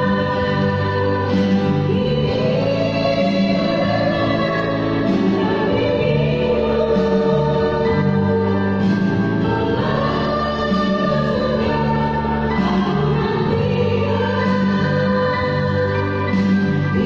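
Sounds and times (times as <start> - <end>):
choir singing sustained notes: 0.0 - 17.0.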